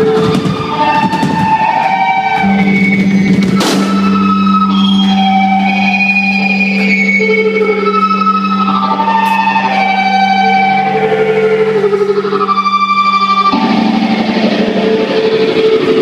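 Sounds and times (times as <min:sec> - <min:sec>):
held electric guitar notes: 0:00.0 - 0:16.0
low drone: 0:00.0 - 0:16.0.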